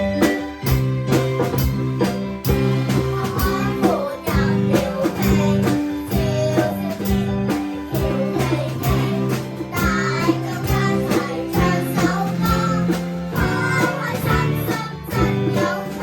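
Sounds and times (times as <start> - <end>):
drum beat: 0.0 - 16.0
guitar: 0.0 - 16.0.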